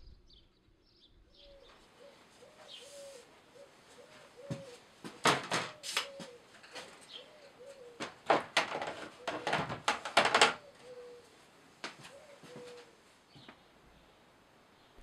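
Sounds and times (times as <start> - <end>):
pigeon cooing: 1.3 - 13.4.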